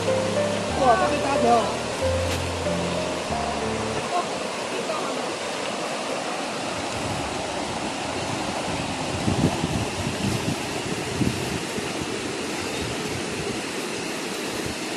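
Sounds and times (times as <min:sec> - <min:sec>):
rush of flowing water: 0:00.0 - 0:14.9.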